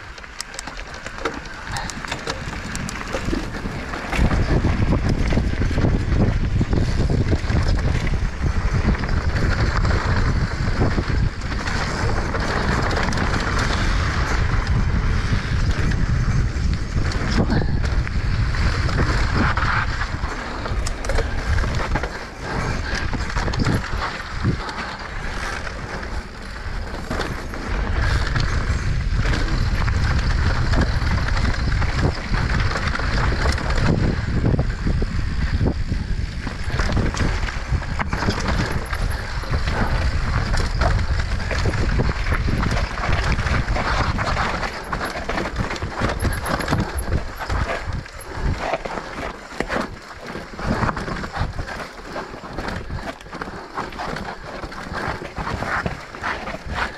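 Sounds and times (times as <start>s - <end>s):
bike rattling and knocking: 0.0s - 56.9s
tyres rolling over dirt: 0.0s - 56.9s
wind buffeting microphone: 0.0s - 56.9s.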